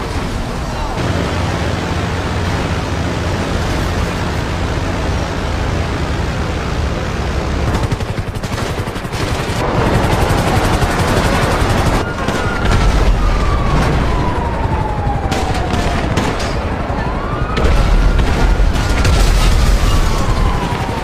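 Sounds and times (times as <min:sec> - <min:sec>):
emergency siren wailing: 0:00.0 - 0:07.8, 0:09.6 - 0:21.0.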